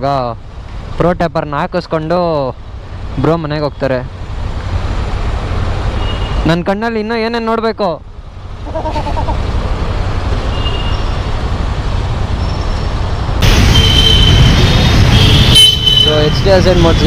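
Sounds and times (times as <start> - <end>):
idling engines rumble: 0.0 - 17.0.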